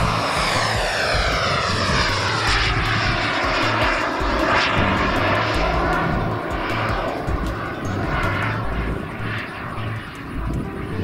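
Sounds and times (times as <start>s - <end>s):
model jet turbine whine: 0.0s - 11.0s.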